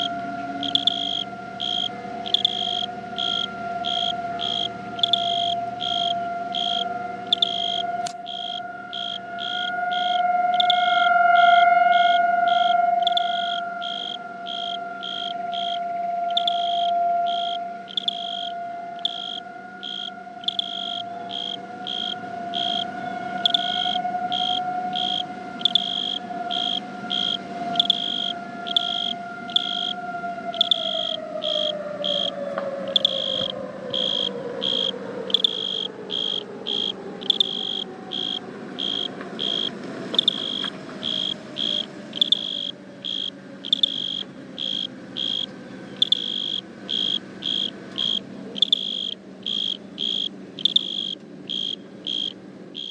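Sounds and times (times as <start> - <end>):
crickets chirping: 0.0 - 52.9
warning siren winding down: 0.0 - 52.9.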